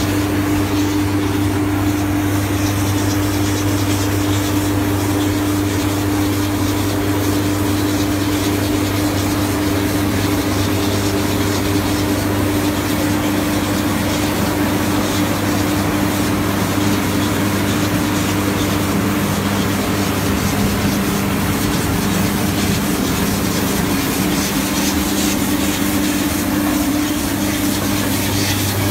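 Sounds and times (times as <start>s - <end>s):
machine engine droning: 0.0s - 28.9s.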